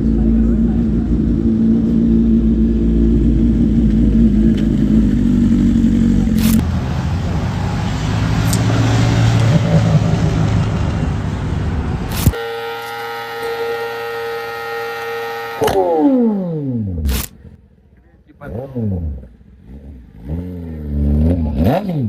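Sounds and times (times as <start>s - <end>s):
motorcycle engine revving: 0.0s - 17.6s, 18.4s - 22.0s.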